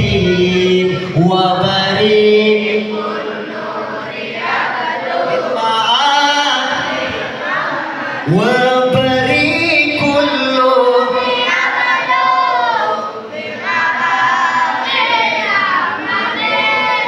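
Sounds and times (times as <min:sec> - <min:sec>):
congregation singing in unison: 0:00.0 - 0:17.0.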